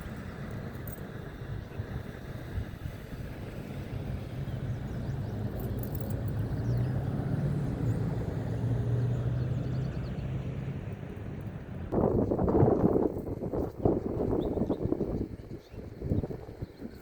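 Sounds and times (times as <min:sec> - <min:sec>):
distant traffic drone: 0:00.0 - 0:17.0.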